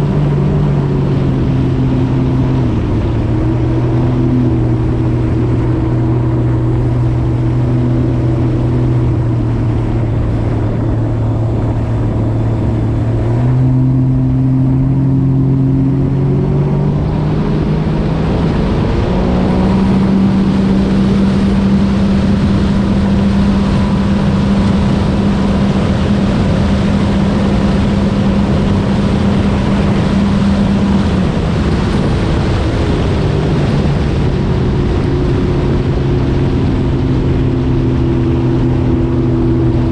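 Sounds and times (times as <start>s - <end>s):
rushing water: 0.0s - 39.9s
watercraft engine running hard: 0.0s - 39.9s.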